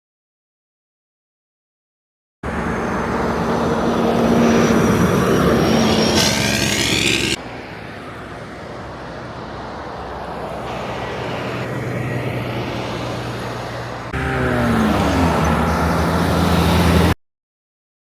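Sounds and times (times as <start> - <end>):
heavy truck engine and road noise: 2.4 - 17.2
passing vehicle: 2.4 - 17.2.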